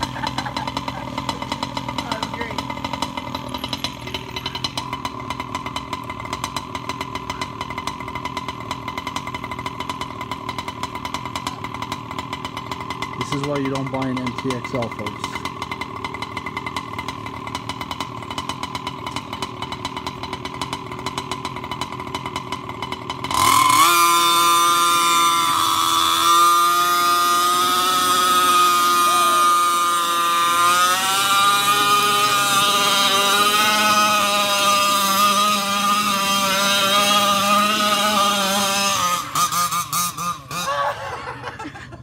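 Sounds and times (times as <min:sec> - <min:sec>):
small engine idling and revving: 0:00.0 - 0:42.0.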